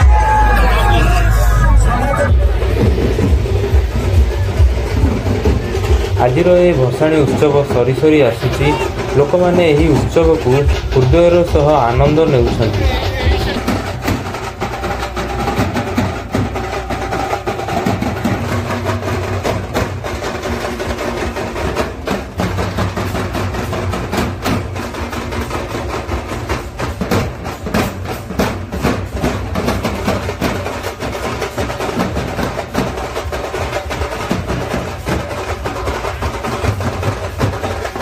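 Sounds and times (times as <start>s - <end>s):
drum band playing: 0.0s - 38.0s.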